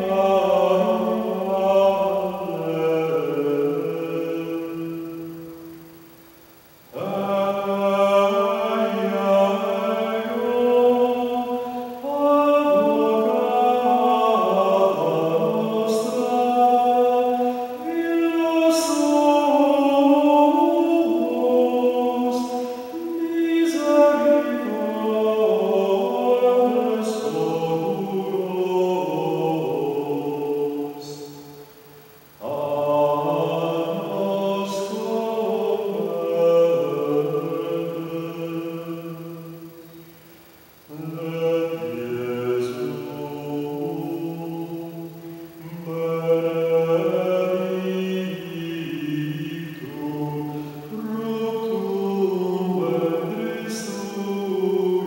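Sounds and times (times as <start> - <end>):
man singing chant unaccompanied: 0.0 - 55.0.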